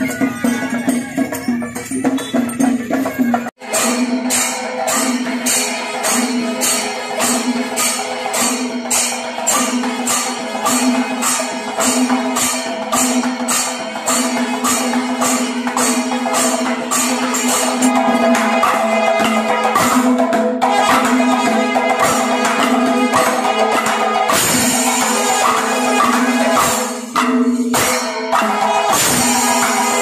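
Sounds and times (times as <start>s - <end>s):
metallic clash on steady beat: 0.0s - 30.0s.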